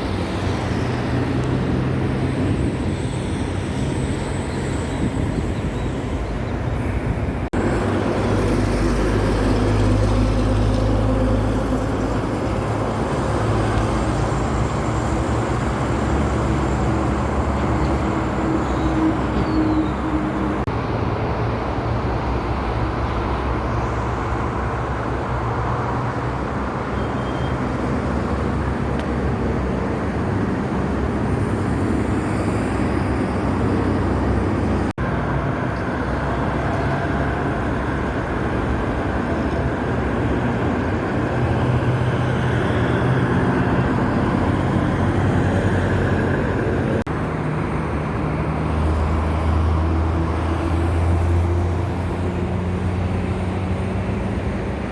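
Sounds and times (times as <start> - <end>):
road traffic passing: 0.0 - 54.9.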